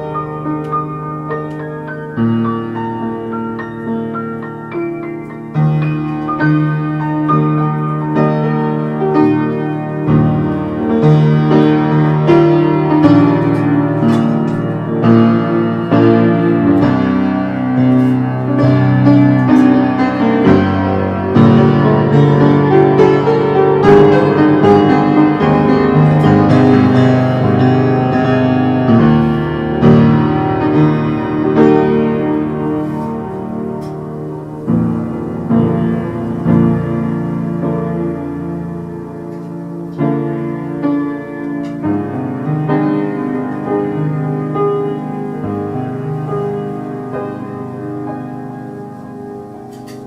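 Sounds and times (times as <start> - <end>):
solo piano music: 0.0 - 50.0.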